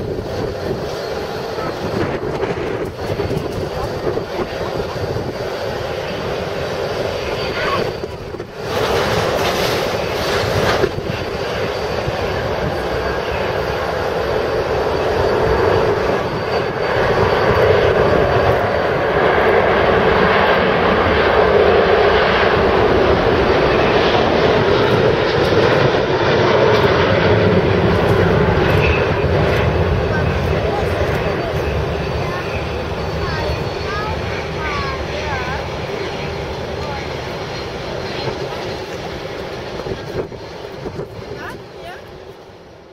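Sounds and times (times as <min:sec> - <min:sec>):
jet engines at takeoff power: 0:00.0 - 0:42.9.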